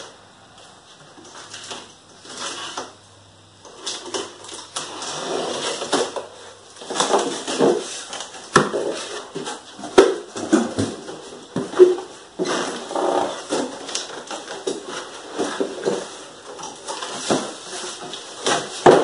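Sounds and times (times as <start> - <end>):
cardboard rustling and scraping: 1.0 - 3.0, 3.7 - 19.0.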